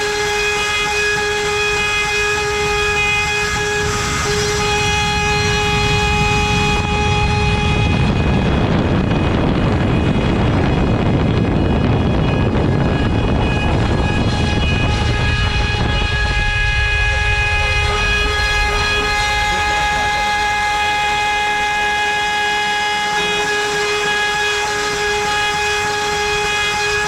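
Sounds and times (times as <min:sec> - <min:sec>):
router spindle high whine: 0:00.0 - 0:27.0.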